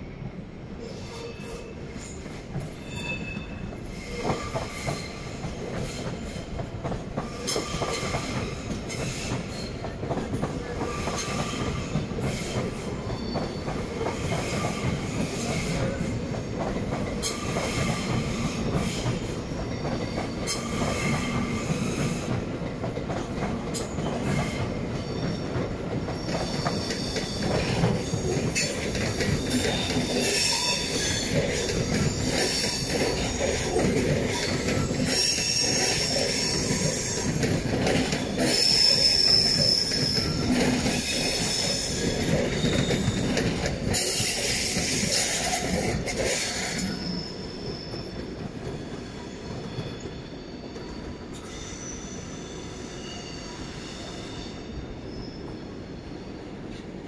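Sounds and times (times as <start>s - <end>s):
train rumble: 0.0s - 51.6s
train wheels squealing: 0.8s - 57.0s.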